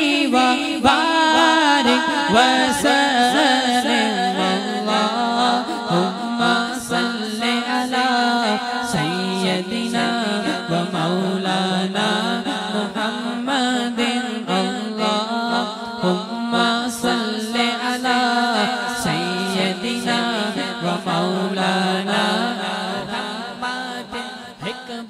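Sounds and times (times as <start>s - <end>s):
man chanting into microphone: 0.0s - 25.0s.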